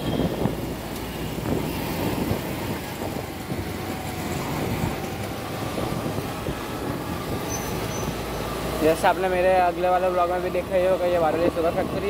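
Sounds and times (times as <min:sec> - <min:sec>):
wind noise on microphone: 0:00.0 - 0:08.9, 0:11.2 - 0:12.0.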